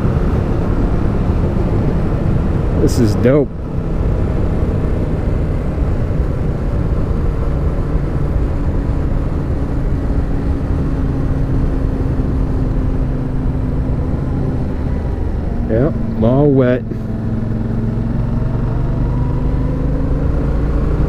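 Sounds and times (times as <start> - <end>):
motorcycle engine hum: 0.0 - 21.0.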